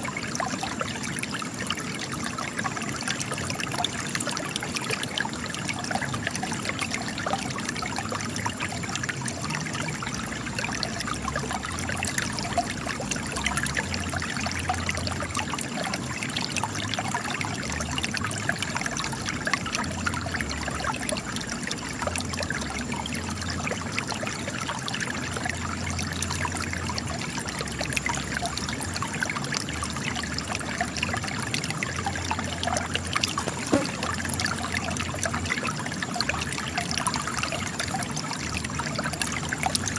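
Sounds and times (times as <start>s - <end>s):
spring water trickling and splashing: 0.0s - 39.9s.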